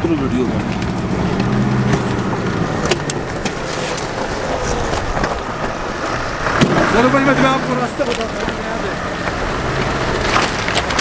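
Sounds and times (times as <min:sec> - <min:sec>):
engine running at low speed: 0:00.1 - 0:11.0
tyres crunching on stones: 0:00.1 - 0:11.0.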